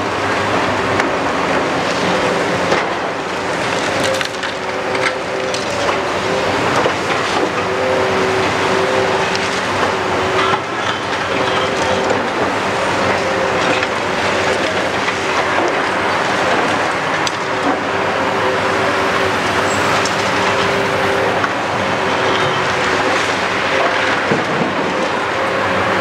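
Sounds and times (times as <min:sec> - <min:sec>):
diesel and hydraulics running: 0:00.0 - 0:26.0
hydraulic whine: 0:00.0 - 0:26.0.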